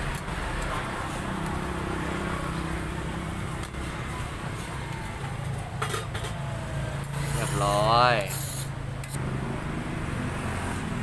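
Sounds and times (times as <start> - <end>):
traffic hum: 0.0 - 11.0.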